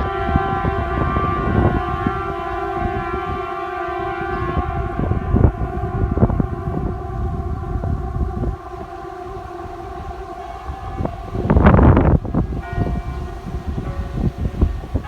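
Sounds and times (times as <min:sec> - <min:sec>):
air-raid siren steady tone: 0:00.0 - 0:15.0.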